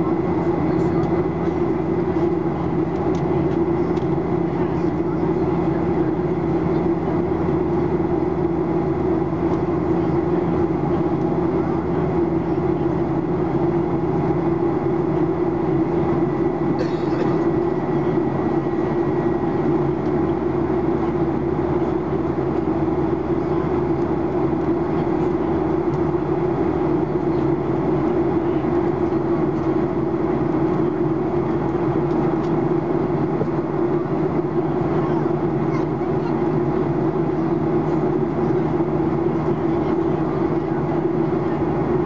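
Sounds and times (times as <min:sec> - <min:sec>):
airplane cabin engine drone: 0:00.0 - 0:42.0.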